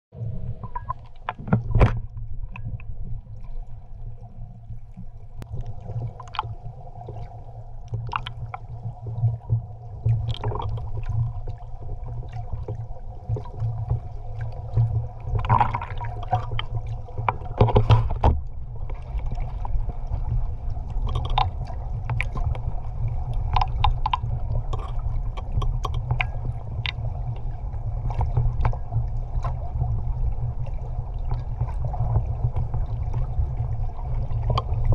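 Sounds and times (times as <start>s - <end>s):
clicks and knocks underwater: 0.1s - 34.9s
underwater rumble of moving water: 0.1s - 34.9s
crackling splashes: 0.2s - 34.9s.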